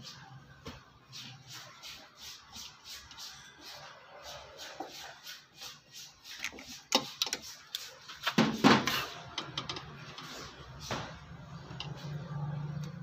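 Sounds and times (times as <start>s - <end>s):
faint rhythmic scratching: 0.0s - 13.0s.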